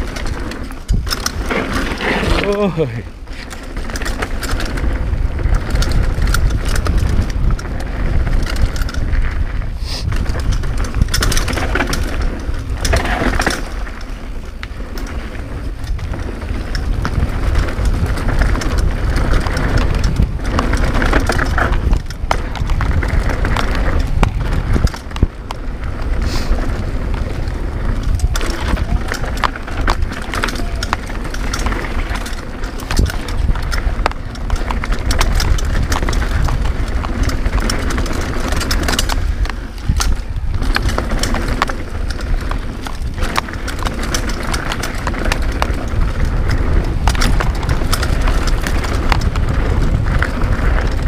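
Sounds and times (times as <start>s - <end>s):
bike rattling over bumps: 0.0s - 51.0s
tyres running over dirt: 0.0s - 51.0s
wind rumble on microphone: 0.0s - 51.0s.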